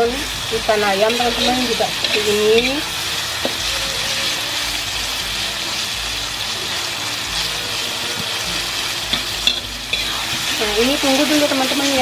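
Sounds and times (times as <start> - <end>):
vegetables sizzling in hot oil: 0.0 - 12.0
spatula scraping wok: 0.1 - 12.0.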